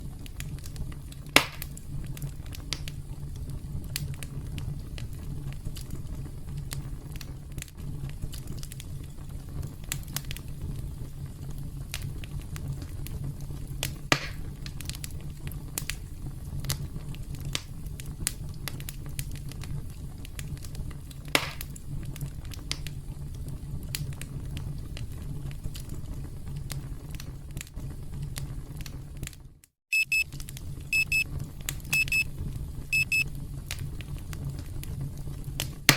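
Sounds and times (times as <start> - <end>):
campfire crackling: 0.0 - 29.5, 30.1 - 35.9
loud fire pops: 0.0 - 29.6, 30.2 - 35.9.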